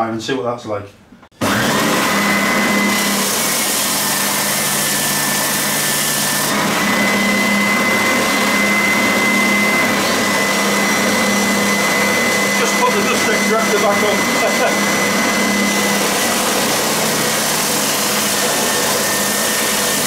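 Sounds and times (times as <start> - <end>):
belt sander motor whine: 1.4 - 20.0.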